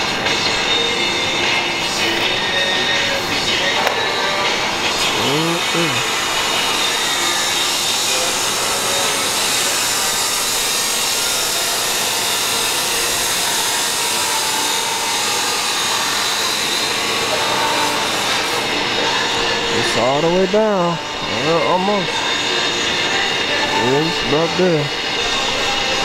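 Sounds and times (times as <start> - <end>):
hydraulic lift hissing: 1.8 - 26.0.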